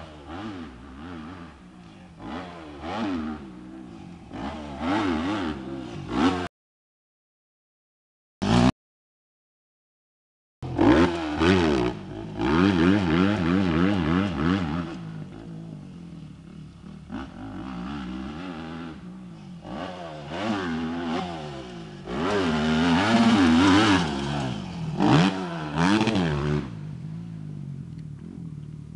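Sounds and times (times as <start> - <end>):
motocross bike engine revving: 0.0 - 6.5, 8.4 - 8.7, 10.6 - 27.4.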